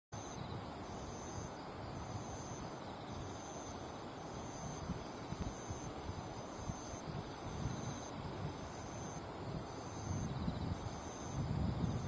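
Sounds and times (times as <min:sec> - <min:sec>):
insects chirring: 0:00.2 - 0:12.0.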